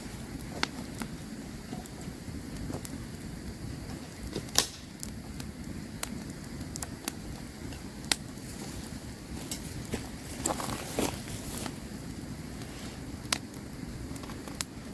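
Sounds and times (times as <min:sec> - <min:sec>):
campfire crackling and popping: 0:00.0 - 0:14.9
flames rushing: 0:00.0 - 0:14.9.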